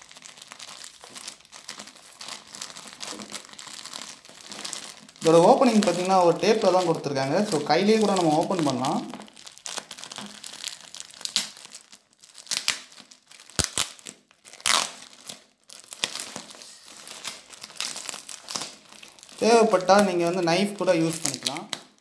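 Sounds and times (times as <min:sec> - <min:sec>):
plastic crinkling and rustling: 0:00.0 - 0:22.0
plastic tearing: 0:00.0 - 0:22.0.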